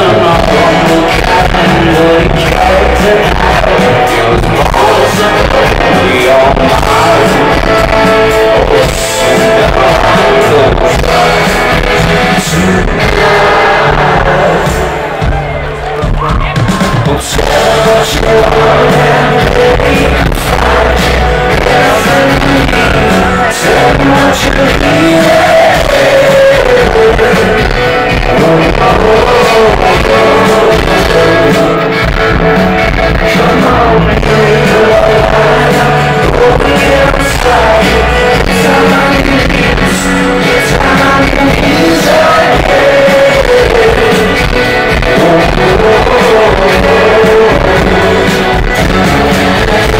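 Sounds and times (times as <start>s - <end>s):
live rock band playing: 0.0s - 49.9s
person singing: 0.0s - 49.9s.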